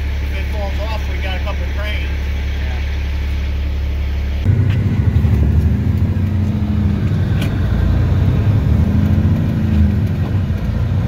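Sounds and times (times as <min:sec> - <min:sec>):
low hum: 0:00.0 - 0:11.0
vehicle engine and road noise: 0:00.0 - 0:11.0.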